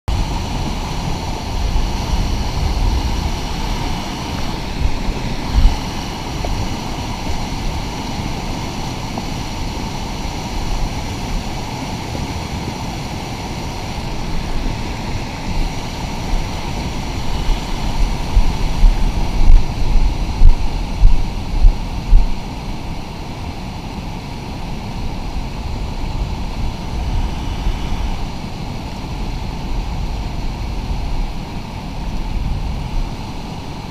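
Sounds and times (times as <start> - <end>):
river rapids roaring: 0.1 - 33.9
wind buffeting microphone: 0.1 - 33.9.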